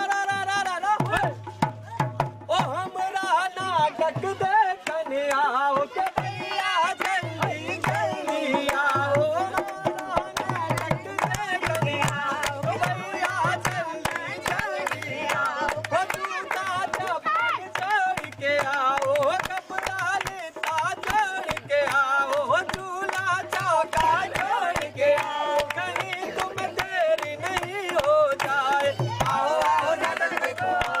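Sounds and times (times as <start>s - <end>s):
group clapping in time: 0.0s - 1.4s, 4.8s - 31.0s
person singing folk song: 0.0s - 31.0s.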